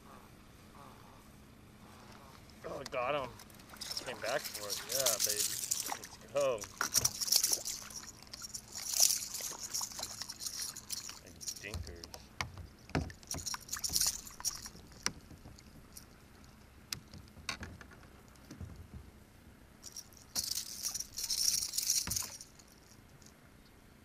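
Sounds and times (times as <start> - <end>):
fishing tackle clicking and rattling: 2.7 - 18.6, 19.8 - 23.4.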